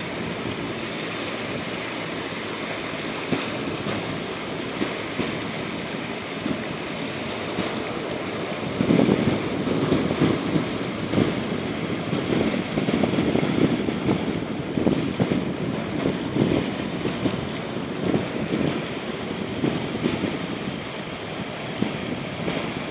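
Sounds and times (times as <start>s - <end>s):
small waves washing ashore: 0.0s - 22.9s
wind buffeting microphone: 0.0s - 22.9s.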